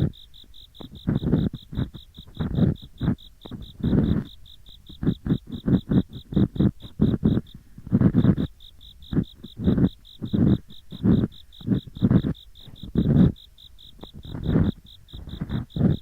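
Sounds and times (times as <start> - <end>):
ear pick scraping: 0.0 - 16.0
insects chirping: 0.0 - 16.0.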